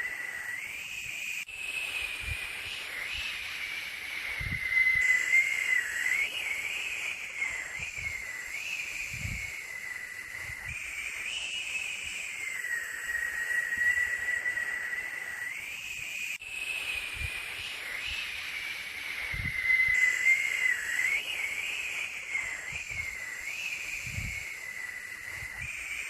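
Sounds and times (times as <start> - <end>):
high wavering whistle: 0.0 - 26.0
steady white noise hiss: 0.0 - 26.0.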